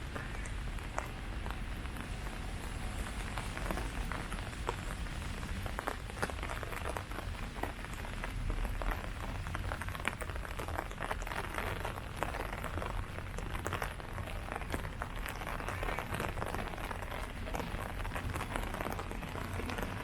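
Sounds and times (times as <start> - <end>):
rain falling on leaves: 0.0 - 20.0.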